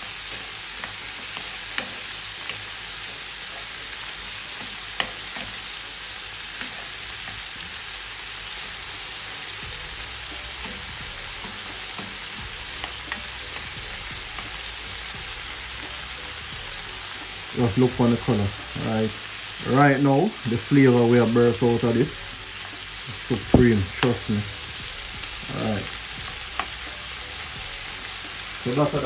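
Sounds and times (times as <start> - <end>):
vegetables sizzling in a pan: 0.0 - 29.0.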